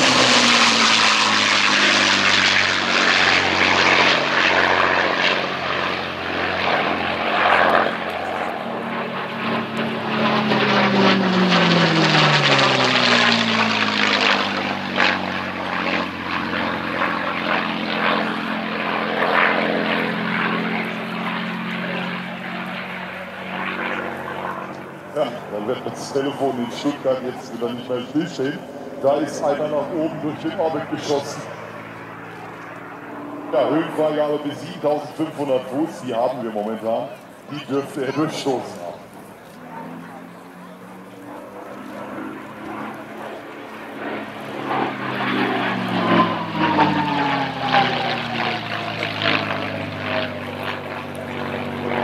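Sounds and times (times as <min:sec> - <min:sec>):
propeller plane engine flyby: 0:00.0 - 0:52.0
second piston fighter plane: 0:00.0 - 0:52.0.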